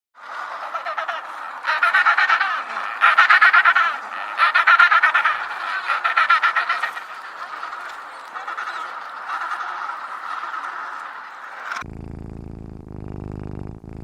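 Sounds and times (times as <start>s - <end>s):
animal chattering trills: 0.2s - 11.9s.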